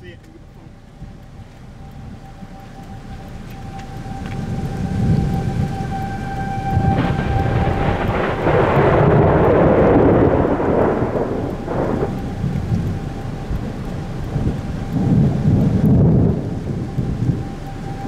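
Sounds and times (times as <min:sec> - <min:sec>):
rain: 0:00.0 - 0:18.0
wind: 0:00.0 - 0:18.0
low thunder rumble: 0:03.3 - 0:18.0.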